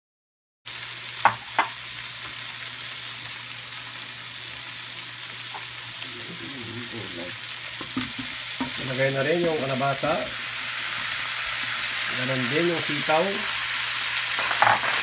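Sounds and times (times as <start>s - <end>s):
crabs sizzling in a pan: 0.7s - 15.0s.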